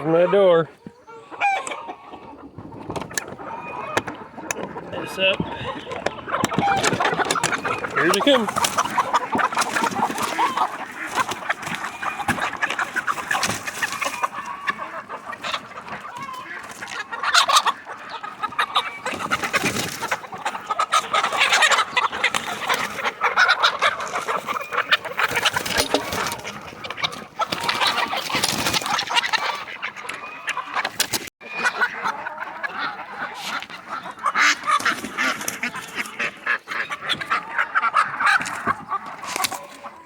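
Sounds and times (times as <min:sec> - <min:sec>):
chickens clucking and squawking: 0:00.0 - 0:40.0
geese honking: 0:00.0 - 0:40.0.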